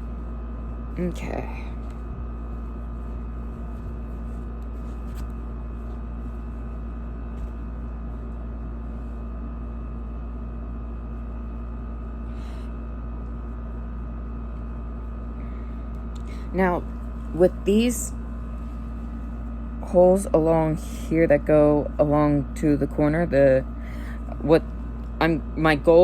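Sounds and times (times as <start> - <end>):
fan drone with thin whine: 0.0 - 26.0.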